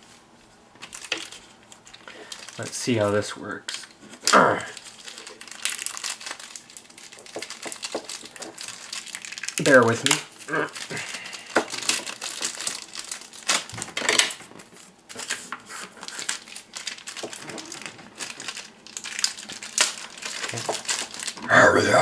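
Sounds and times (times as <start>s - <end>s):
plastic packaging crinkling: 0.8s - 21.5s.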